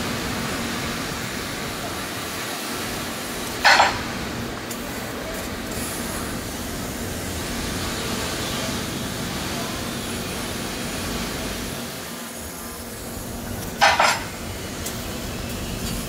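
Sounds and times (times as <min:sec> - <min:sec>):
factory machinery hiss and hum: 0:00.0 - 0:16.0.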